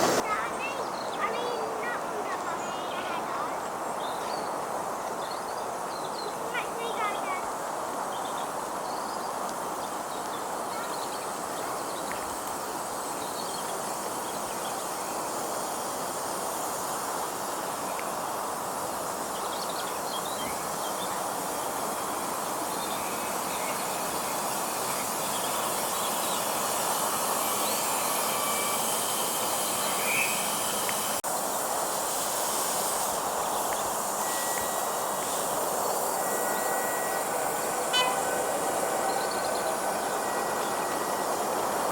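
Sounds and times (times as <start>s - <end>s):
miniature train rumbling: 0.0s - 41.9s.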